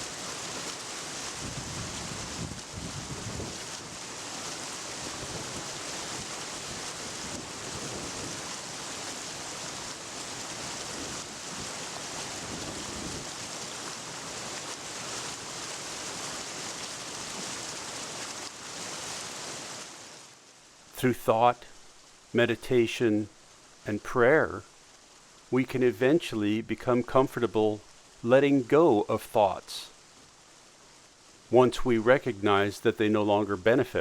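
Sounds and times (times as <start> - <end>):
rushing outdoor nature ambience: 0.0 - 34.0.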